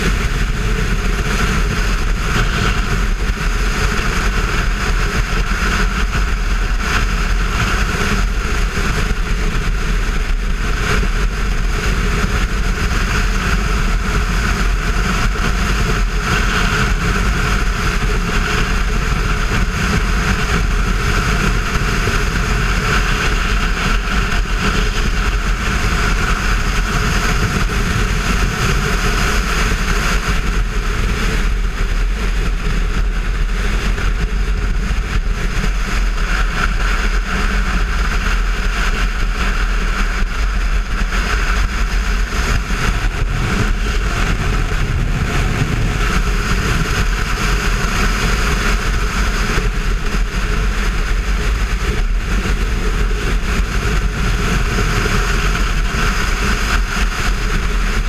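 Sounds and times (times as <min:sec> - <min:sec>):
motorcycle engine droning: 0:00.0 - 0:58.0
wind noise: 0:00.0 - 0:58.0.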